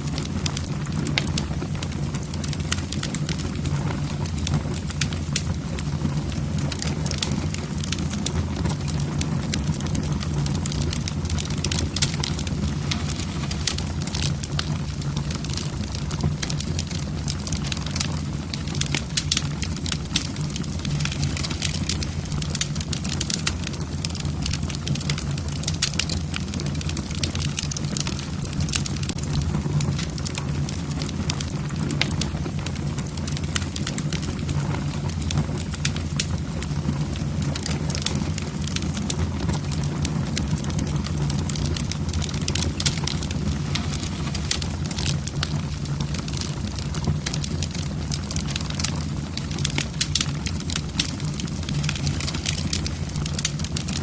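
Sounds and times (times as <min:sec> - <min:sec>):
logs crackling and popping: 0:00.0 - 0:54.0
low rumble of flames: 0:00.0 - 0:54.0.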